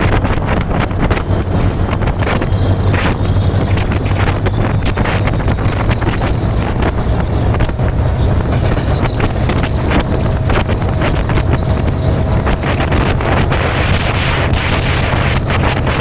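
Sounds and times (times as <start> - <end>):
train rumbling past: 0.0 - 16.0
wheels clacking over rails: 0.0 - 16.0
wind buffeting microphone: 0.0 - 16.0.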